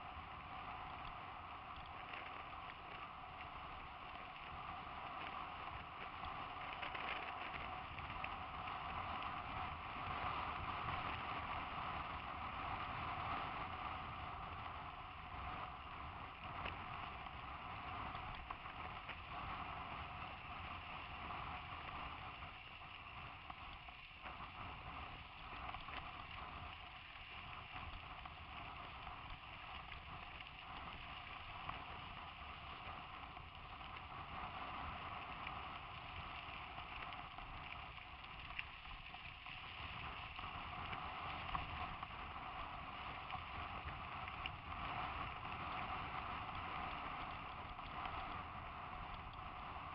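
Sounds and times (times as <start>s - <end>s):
bike tyres rolling on dirt: 0.0s - 49.9s.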